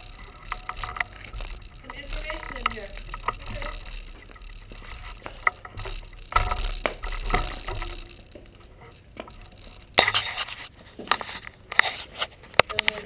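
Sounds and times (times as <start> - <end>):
scattered clicks and knocks: 0.0 - 13.0.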